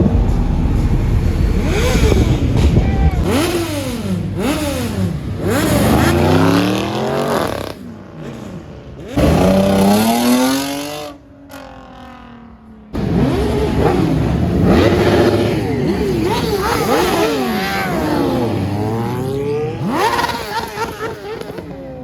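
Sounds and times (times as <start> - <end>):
car engines revving and accelerating: 0.0 - 22.0.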